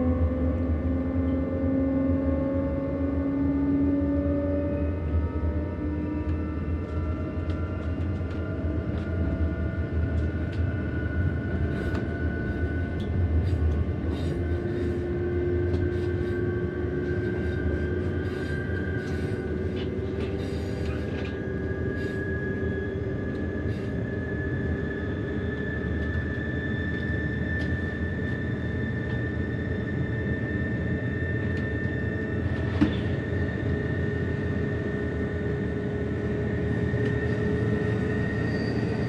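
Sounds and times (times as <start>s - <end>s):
train rumble inside carriage: 0.0s - 39.0s.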